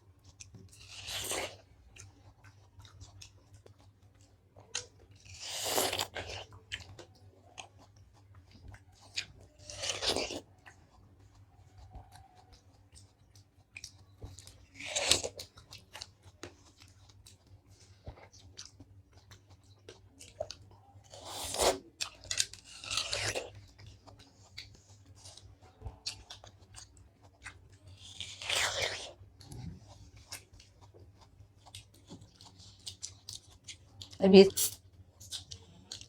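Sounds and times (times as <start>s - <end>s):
wet chewing of food: 0.0s - 36.0s.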